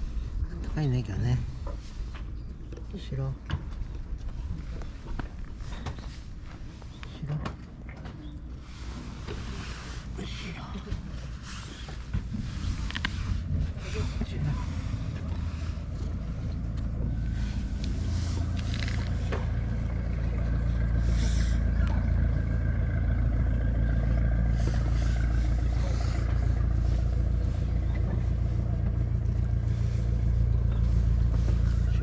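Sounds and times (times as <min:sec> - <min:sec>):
boat engine rumbling: 0:00.0 - 0:32.0.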